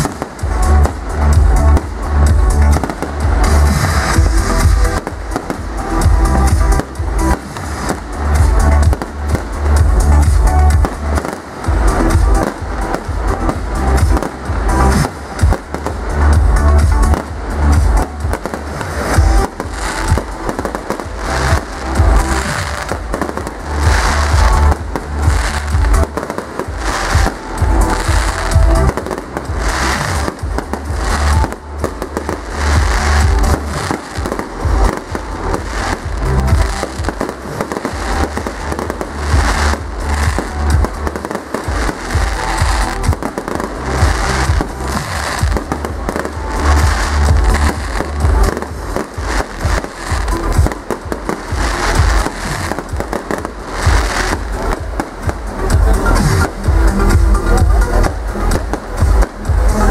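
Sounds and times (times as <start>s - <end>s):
fireworks bangs and booms: 0.0s - 59.9s
music: 0.0s - 59.9s.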